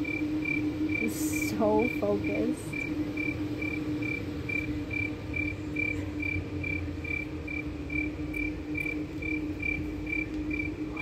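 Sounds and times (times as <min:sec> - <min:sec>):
cricket chirping: 0:00.0 - 0:11.0
low hum: 0:00.0 - 0:11.0.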